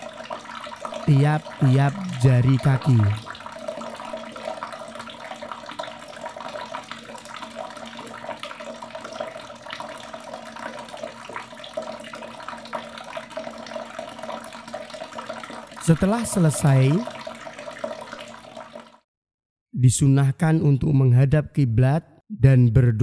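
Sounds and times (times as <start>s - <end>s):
water running from a tap: 0.0s - 19.0s.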